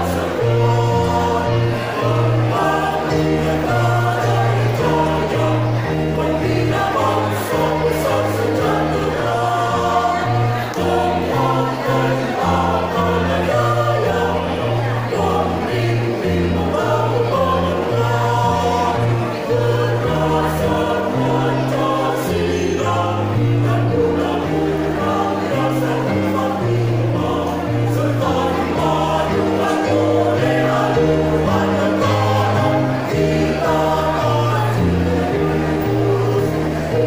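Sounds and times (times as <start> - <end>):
choir singing in parts: 0.0 - 37.0.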